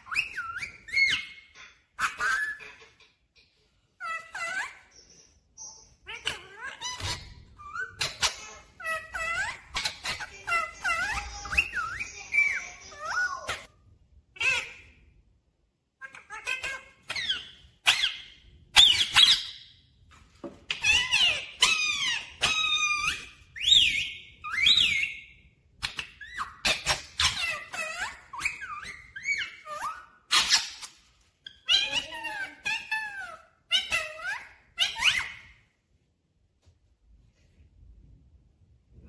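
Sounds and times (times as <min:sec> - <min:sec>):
parakeet squeaky calls: 0:00.0 - 0:03.0, 0:04.0 - 0:13.7, 0:14.4 - 0:15.0, 0:16.0 - 0:19.8, 0:20.6 - 0:35.6.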